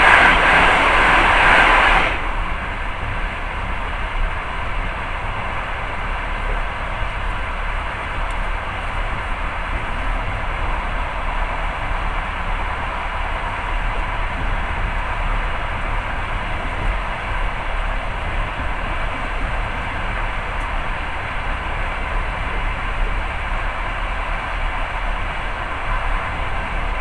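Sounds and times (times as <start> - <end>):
train wheels on rails: 0.0 - 27.0.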